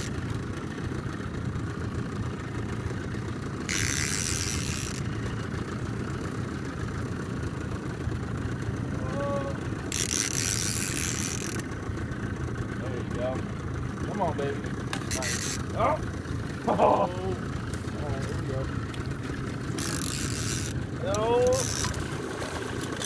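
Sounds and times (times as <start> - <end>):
outboard motor idling: 0.0 - 23.0.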